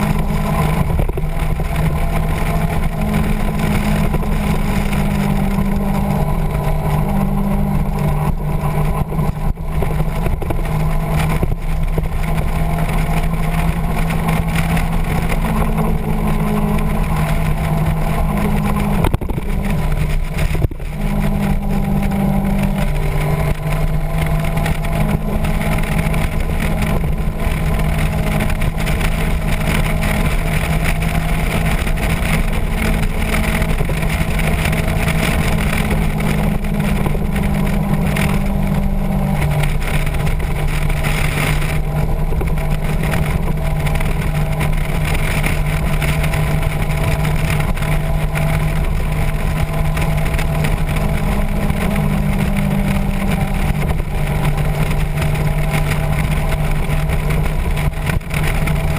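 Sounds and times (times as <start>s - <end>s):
motorcycle engine running: 0.0s - 58.9s
wind on microphone: 0.0s - 58.9s.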